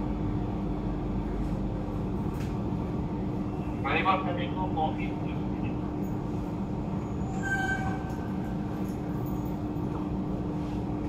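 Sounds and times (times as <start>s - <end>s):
constant hum: 0.0s - 11.0s
metro train rumbling: 0.0s - 11.0s.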